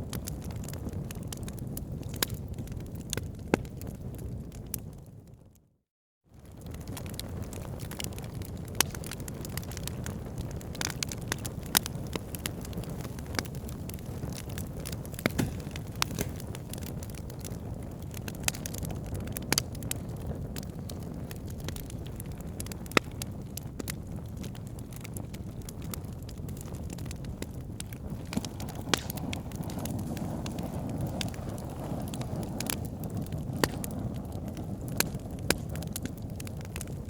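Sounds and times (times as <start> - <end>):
fire crackles and pops: 0.0 - 5.6, 6.3 - 37.0
fire rushing flame: 6.4 - 37.0.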